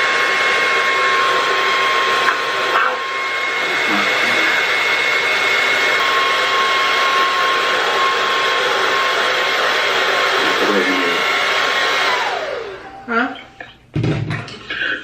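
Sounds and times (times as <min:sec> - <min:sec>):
hair dryer running: 0:00.0 - 0:13.6.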